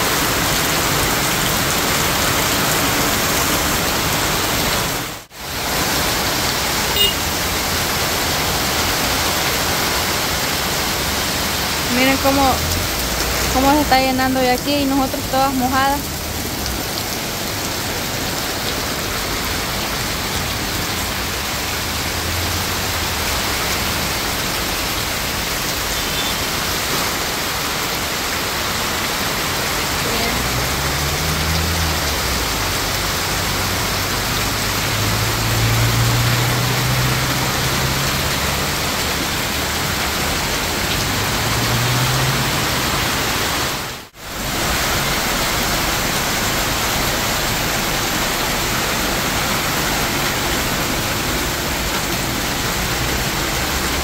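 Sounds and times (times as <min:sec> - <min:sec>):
cars passing on flooded road: 0:00.0 - 0:54.0
heavy rain pouring on road: 0:00.0 - 0:54.0.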